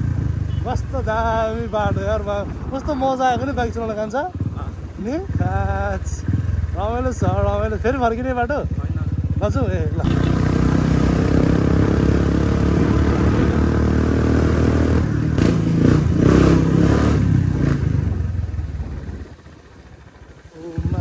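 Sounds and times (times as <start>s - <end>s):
two-stroke dirt bike engine: 0.0s - 21.0s.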